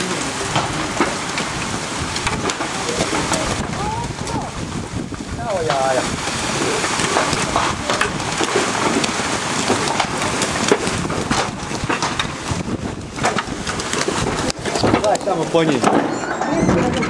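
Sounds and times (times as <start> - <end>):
hail and rain pelting down: 0.0 - 17.0.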